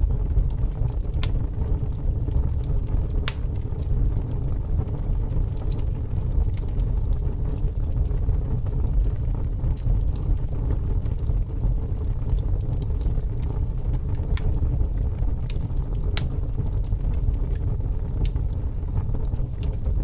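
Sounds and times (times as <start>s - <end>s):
fire rumbling and crackling: 0.0s - 20.0s.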